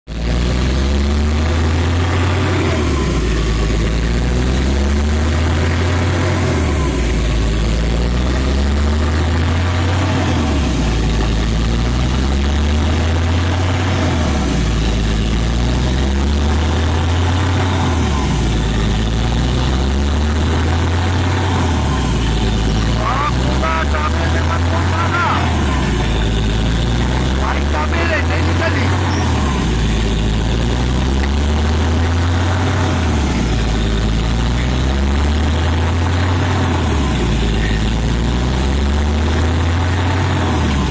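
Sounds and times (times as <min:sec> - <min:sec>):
drilling rig engine and compressor droning: 0:00.0 - 0:40.9.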